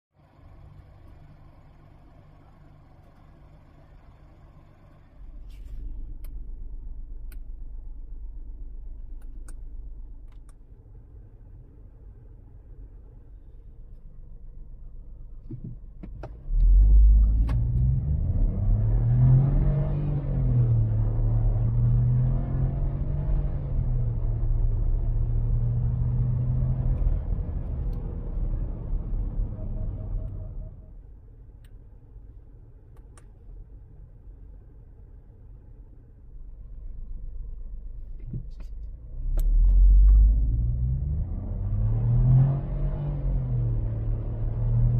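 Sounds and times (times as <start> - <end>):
car engine rumbling: 0.2 - 44.9
road noise: 0.3 - 44.9.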